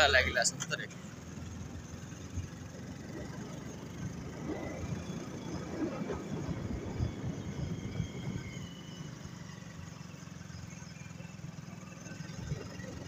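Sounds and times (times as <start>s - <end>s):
motorcycle engine droning: 0.0s - 13.0s
road noise: 0.0s - 13.0s.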